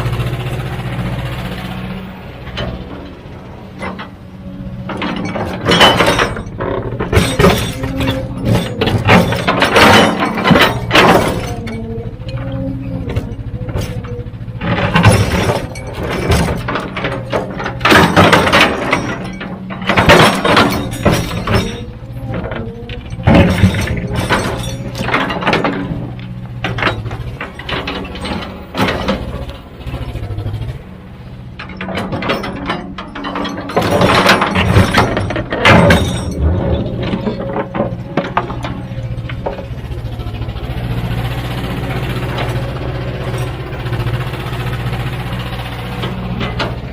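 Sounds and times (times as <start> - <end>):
diesel earthmoving machine running: 0.0 - 46.9.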